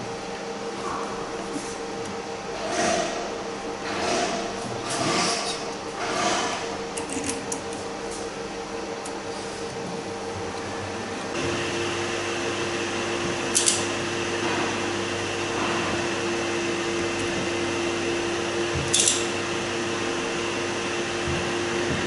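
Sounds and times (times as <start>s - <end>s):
workshop machinery hum: 0.0s - 22.0s.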